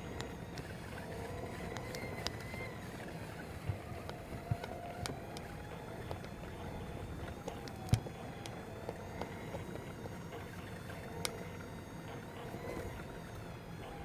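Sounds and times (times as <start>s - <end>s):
faint distant engine hum: 0.0s - 14.0s
wind rumble on microphone: 0.0s - 14.0s.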